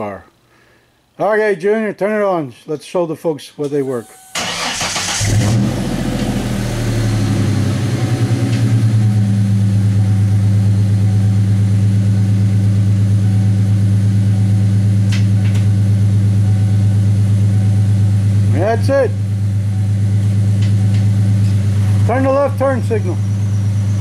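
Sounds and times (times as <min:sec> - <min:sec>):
car engine idling: 0:04.4 - 0:24.0.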